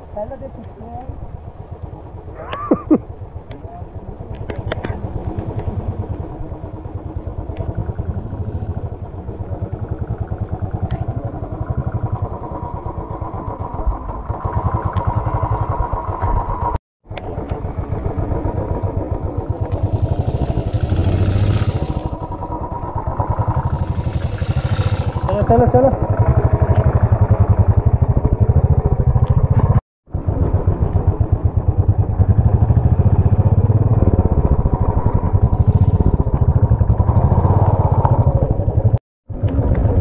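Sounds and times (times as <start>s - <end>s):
motorcycle engine running: 0.2s - 40.0s.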